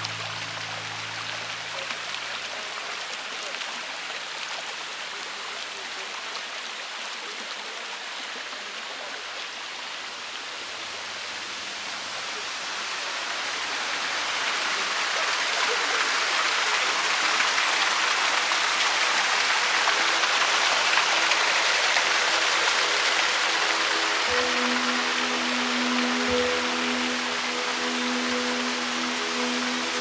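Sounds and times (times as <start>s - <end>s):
river water rushing over boulders: 0.0s - 30.0s.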